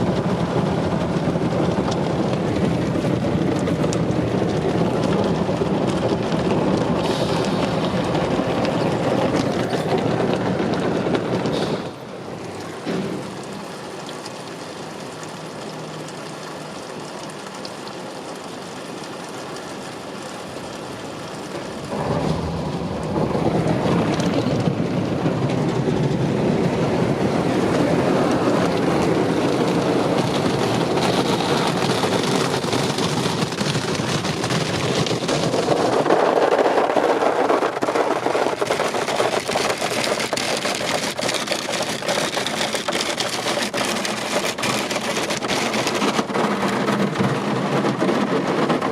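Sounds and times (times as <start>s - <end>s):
car wash machinery: 0.0s - 48.9s
water spraying on car: 0.0s - 48.9s.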